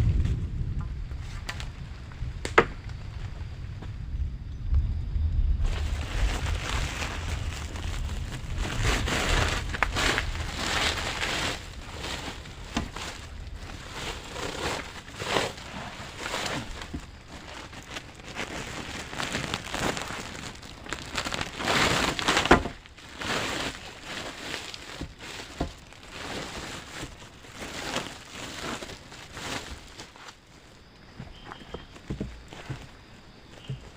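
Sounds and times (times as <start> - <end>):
plastic sacks rustling: 5.6 - 33.9.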